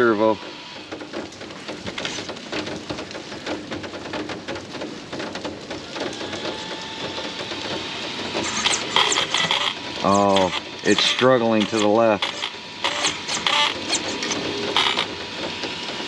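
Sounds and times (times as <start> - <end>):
rain pattering: 0.0 - 12.9, 13.7 - 16.0.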